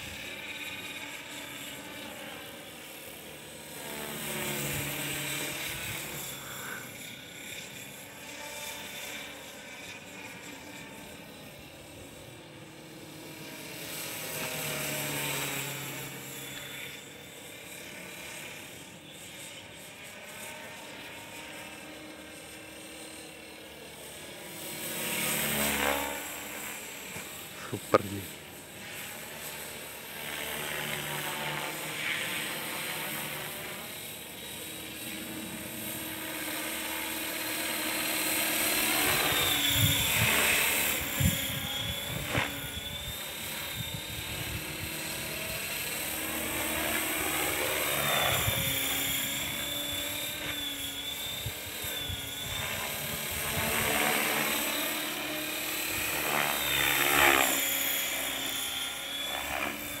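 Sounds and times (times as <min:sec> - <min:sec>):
model helicopter whine: 0:00.0 - 1:00.0.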